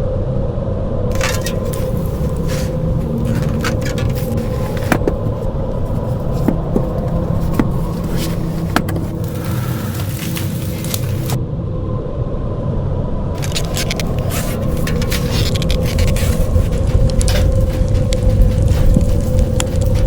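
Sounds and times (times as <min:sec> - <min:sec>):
sharp clicks and rattles: 0:01.1 - 0:11.4, 0:13.4 - 0:20.0
vehicle engine and road rumble: 0:01.1 - 0:11.4, 0:13.4 - 0:20.0.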